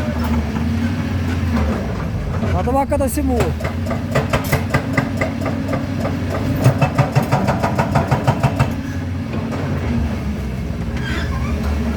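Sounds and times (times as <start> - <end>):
excavator diesel engine: 0.0 - 11.9.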